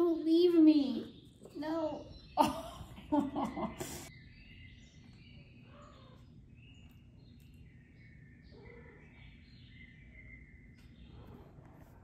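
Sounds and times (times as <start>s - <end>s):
faint high chirping calls: 0.0s - 12.0s.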